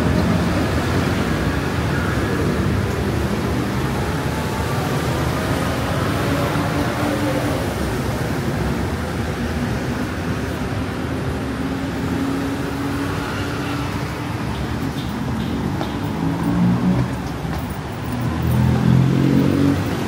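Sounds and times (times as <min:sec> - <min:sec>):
city road traffic: 0:00.0 - 0:20.0.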